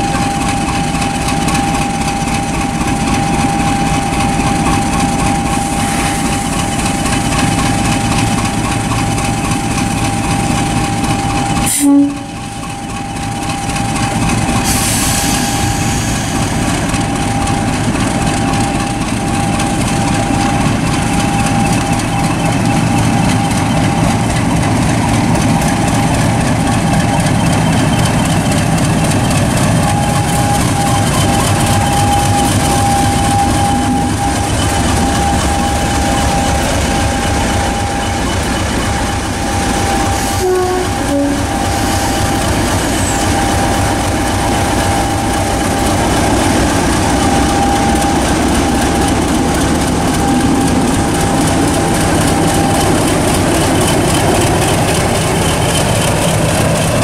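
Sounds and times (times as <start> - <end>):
diesel locomotive engine passing: 0.0 - 57.0
high whine: 0.0 - 57.0.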